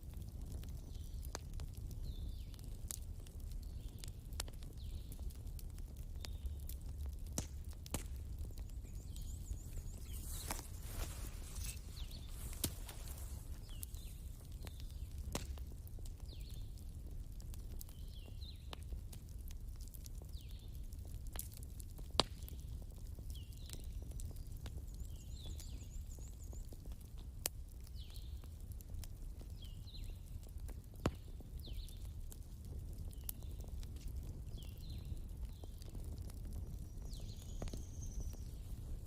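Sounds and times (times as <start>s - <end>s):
fire sharp pops: 0.0s - 39.0s
wood fire crackling: 0.0s - 39.0s.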